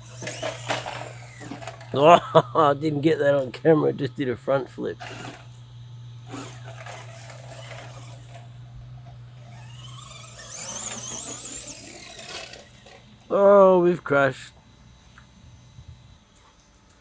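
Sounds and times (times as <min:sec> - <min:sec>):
electric motor whining: 0:00.0 - 0:16.3.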